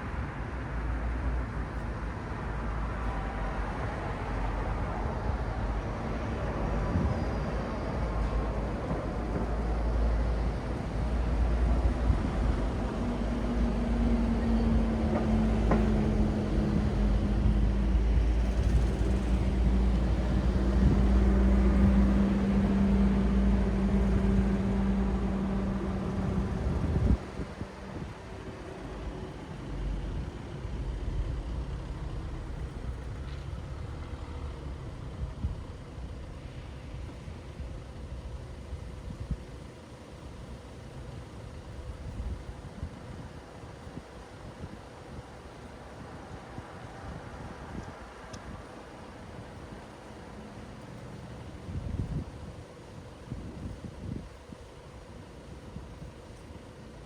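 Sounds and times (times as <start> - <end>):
heavy vehicle engine hum: 0.0 - 57.0
traffic rumble: 0.0 - 57.0.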